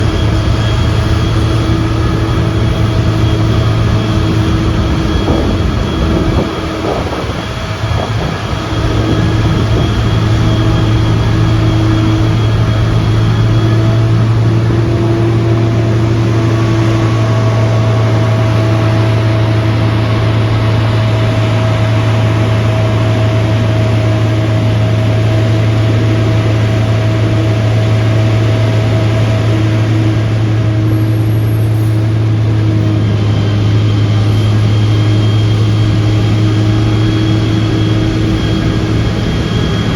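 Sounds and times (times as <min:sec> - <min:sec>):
heavy vehicle engine humming: 0:00.0 - 0:39.9.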